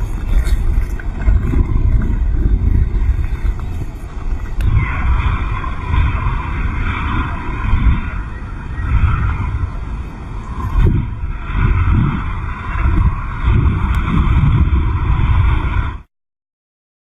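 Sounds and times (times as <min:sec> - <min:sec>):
heavy surf breaking: 0:00.0 - 0:16.0
wind buffeting microphone: 0:00.0 - 0:16.1.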